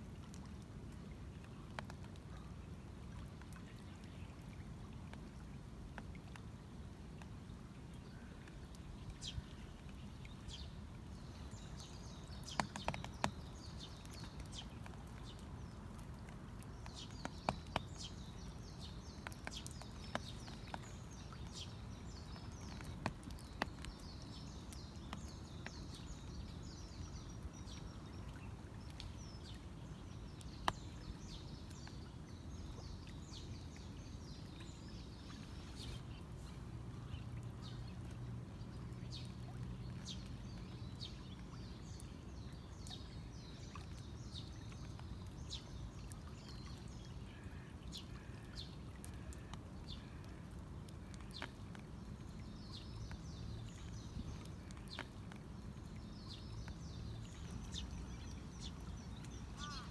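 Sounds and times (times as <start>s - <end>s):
rain: 0.0s - 59.9s
small birds chirping: 8.0s - 50.3s, 51.0s - 59.9s.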